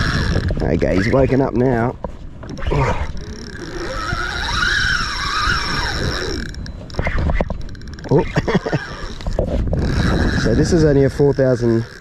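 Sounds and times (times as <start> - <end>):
fishing reel drag buzzing: 0.0 - 12.0.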